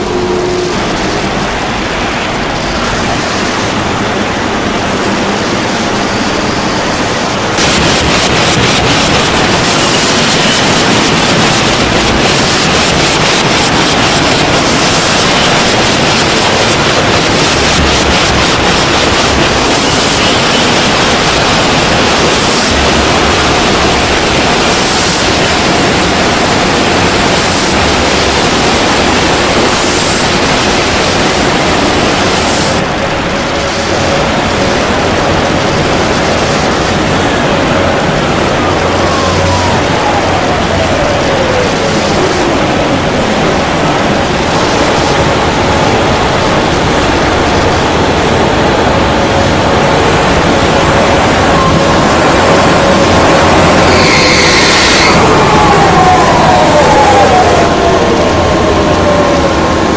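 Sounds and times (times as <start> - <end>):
loud steady rushing noise: 0.0 - 59.9.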